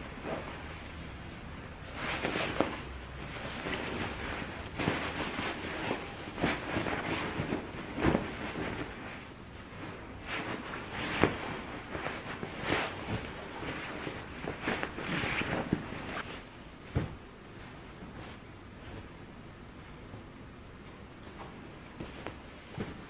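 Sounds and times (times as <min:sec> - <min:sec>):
fabric cushion covers rustling: 0:00.0 - 0:23.0
hand pats and tugs on cushions: 0:01.8 - 0:23.0.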